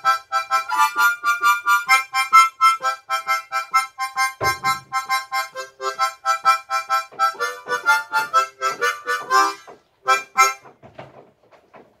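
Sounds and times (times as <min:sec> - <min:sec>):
harmonica playing: 0:00.0 - 0:10.8.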